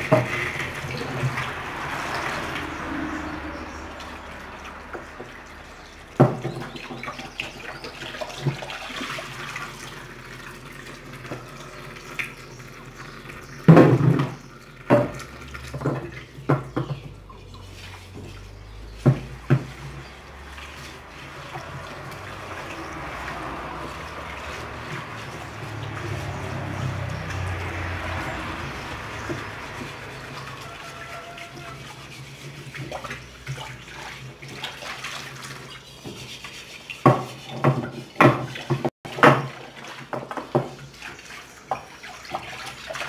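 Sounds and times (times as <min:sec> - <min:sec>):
splashes and knocks in a sink: 0:00.0 - 0:43.0
tap water running into a sink: 0:00.0 - 0:43.0.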